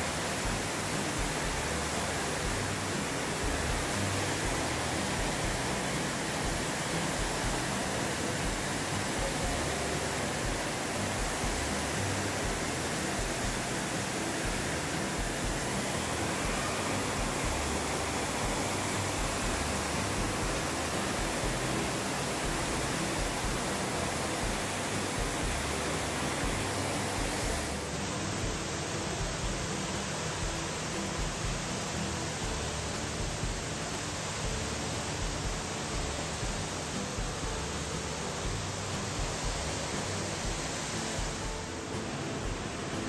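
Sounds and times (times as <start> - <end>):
steady rushing noise: 0.0 - 43.0.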